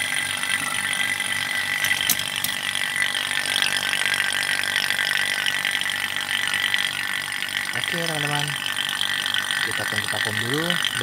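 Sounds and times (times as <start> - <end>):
electric vacuum pump running: 0.0 - 11.0.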